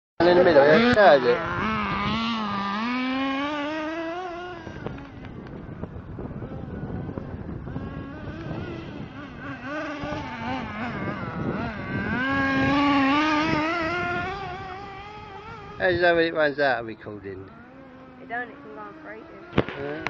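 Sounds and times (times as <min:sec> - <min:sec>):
small engine revving high: 0:00.2 - 0:20.0.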